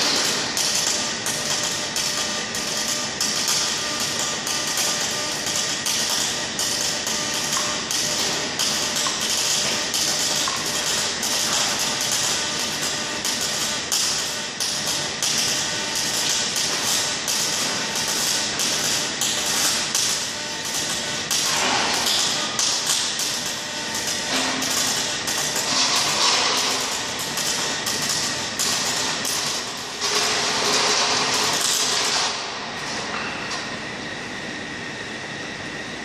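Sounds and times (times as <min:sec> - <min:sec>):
welding arc crackling: 0:00.0 - 0:32.6
steady hum: 0:00.0 - 0:36.0.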